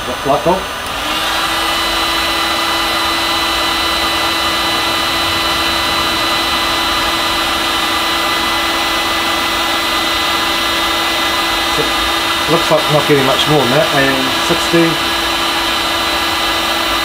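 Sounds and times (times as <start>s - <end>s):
heat gun fan humming: 0.0s - 17.0s
high whining tones: 0.0s - 17.0s.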